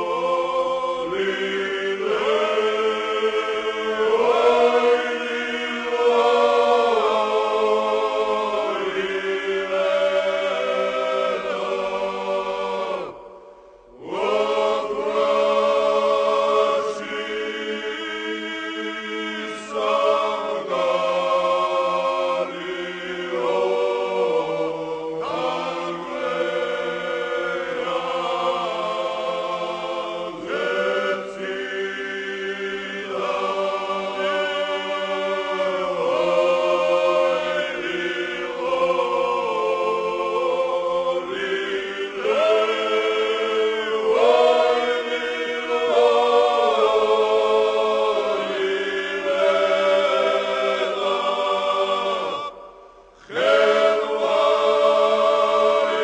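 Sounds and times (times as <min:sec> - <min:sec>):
choir singing in parts: 0:00.0 - 0:56.0.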